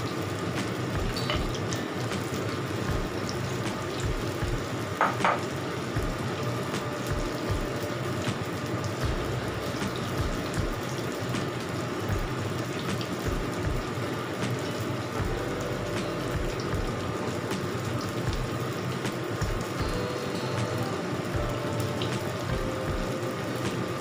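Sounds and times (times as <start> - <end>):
fritters deep-frying in oil: 0.0 - 24.0.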